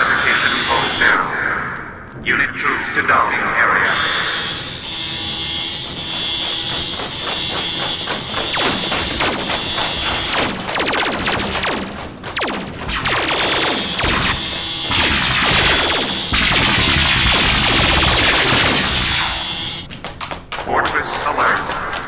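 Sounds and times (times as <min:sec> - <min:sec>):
high electronic tone: 0:00.0 - 0:01.7, 0:03.0 - 0:19.9
synthesized laser gun fire: 0:00.0 - 0:01.7, 0:03.1 - 0:19.8.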